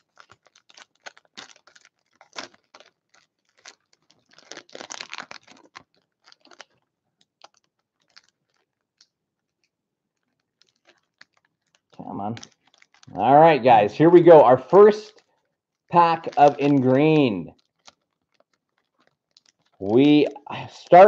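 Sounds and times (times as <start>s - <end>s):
foil wrapper crinkling: 0.0s - 21.0s.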